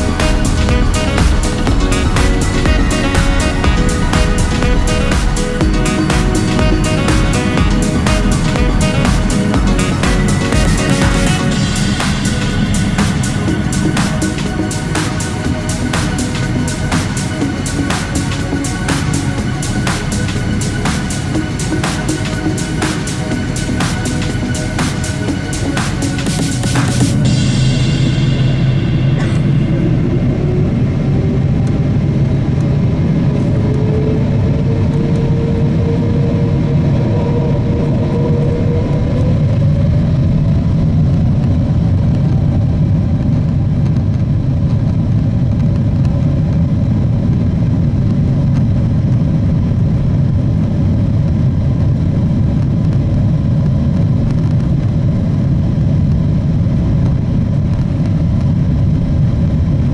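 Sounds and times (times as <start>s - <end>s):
jet engine whine rising: 0.0s - 59.9s
loud low rumble: 0.0s - 59.9s.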